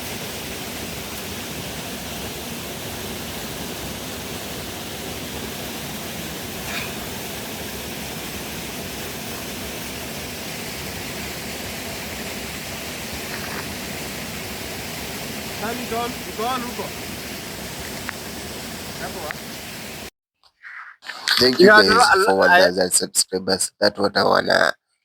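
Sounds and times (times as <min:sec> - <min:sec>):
waterfall rushing: 0:00.0 - 0:20.1.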